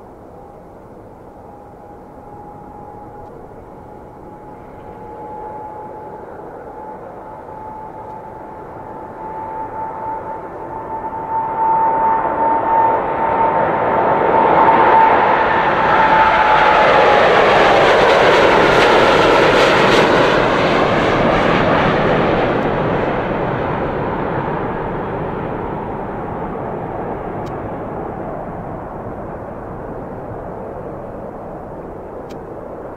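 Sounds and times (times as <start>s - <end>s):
jet engines at takeoff: 0.0s - 32.9s.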